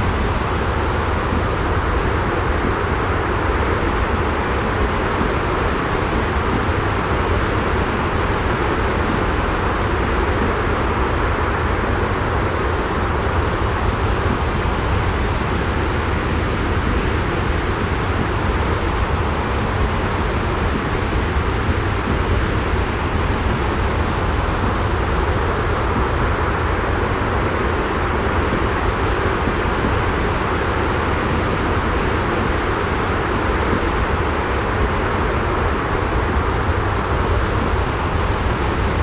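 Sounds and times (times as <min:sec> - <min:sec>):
rumbling white noise: 0:00.0 - 0:39.0.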